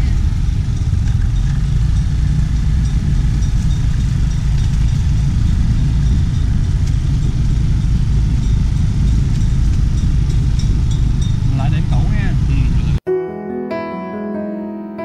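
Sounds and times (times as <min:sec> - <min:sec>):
vehicle rumbling on dirt path: 0:00.0 - 0:13.0
wind on microphone: 0:00.0 - 0:13.0.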